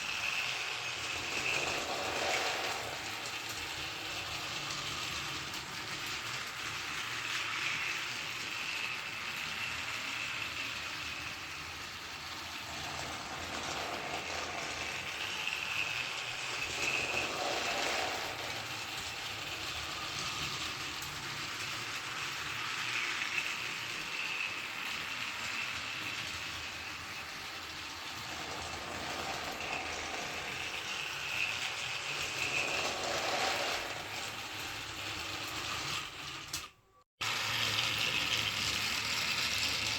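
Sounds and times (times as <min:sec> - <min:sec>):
toy train motor whirring: 0:00.0 - 0:39.9
toy train wheels clattering: 0:00.0 - 0:39.9.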